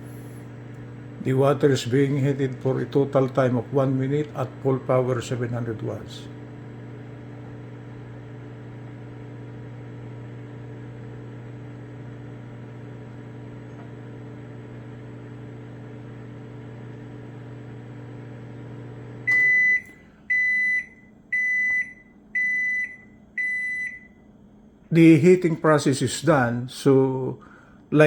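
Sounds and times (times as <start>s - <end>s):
microwave oven humming: 0.0s - 28.0s.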